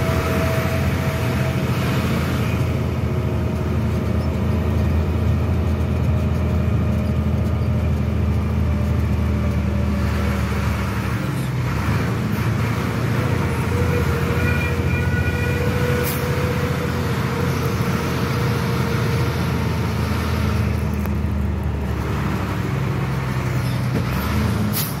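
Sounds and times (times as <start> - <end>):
road noise: 0.0 - 25.0
truck engine running: 0.0 - 25.0.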